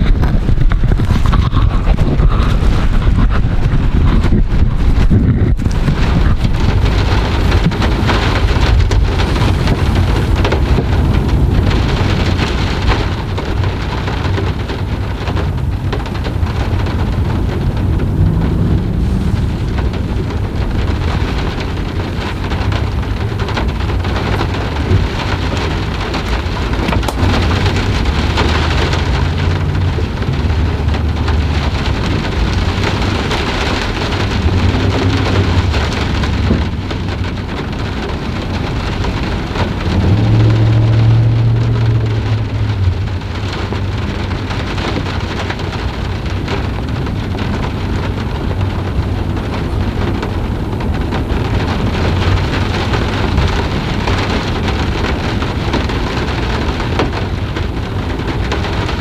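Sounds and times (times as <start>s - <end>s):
low rumble of thunder: 0.0s - 59.0s
steady rain falling: 0.0s - 59.0s.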